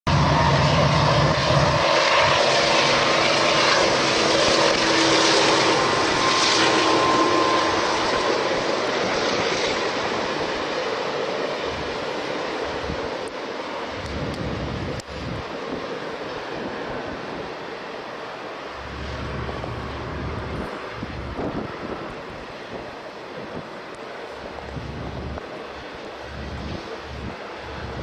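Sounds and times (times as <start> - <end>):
diesel locomotive engine roar: 0.1 - 28.0.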